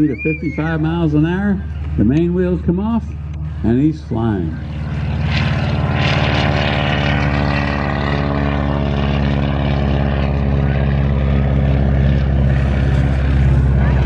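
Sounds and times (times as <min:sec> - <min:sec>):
propeller plane engine running: 0:00.0 - 0:14.0.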